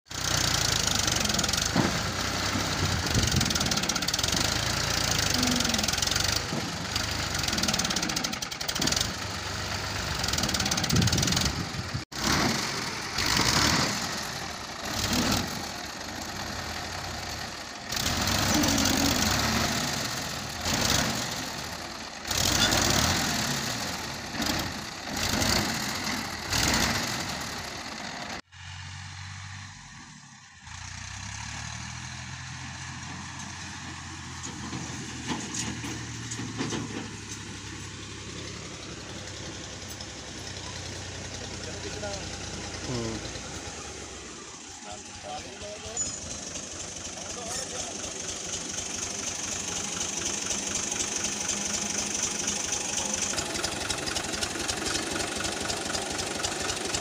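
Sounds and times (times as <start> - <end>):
tractor diesel engine under load: 0.1 - 57.0.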